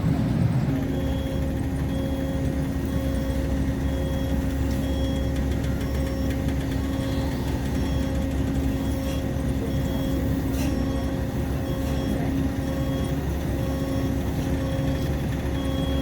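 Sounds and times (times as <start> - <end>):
large engine humming: 0.0 - 16.0.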